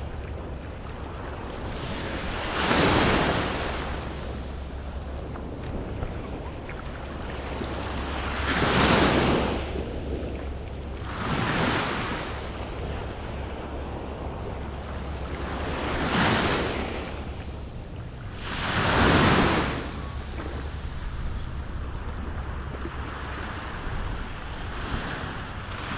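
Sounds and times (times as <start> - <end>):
small waves washing on sand: 0.0 - 25.9
wind rumbling on microphone: 0.0 - 25.9.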